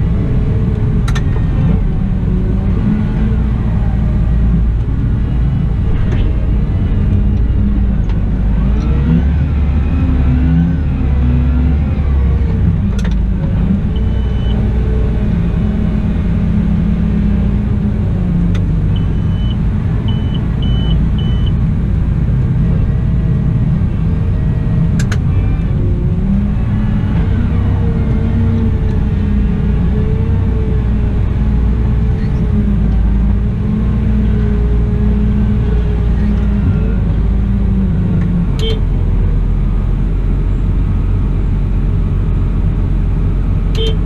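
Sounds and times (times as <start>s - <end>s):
loader diesel engine working: 0.0s - 44.0s.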